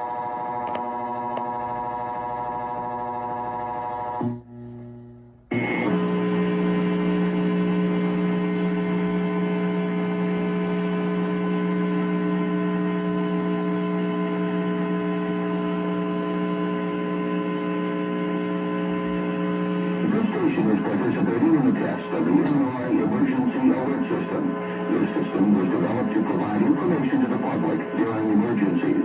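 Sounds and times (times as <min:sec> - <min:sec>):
alert tone drone: 0:00.0 - 0:29.0.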